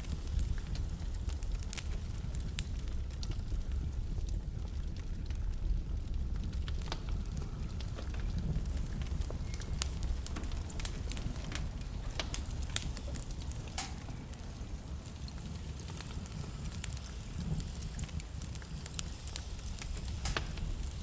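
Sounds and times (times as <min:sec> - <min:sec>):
burning logs crackling and popping: 0:00.0 - 0:21.0
fire rumbling in a fireplace: 0:00.0 - 0:21.0.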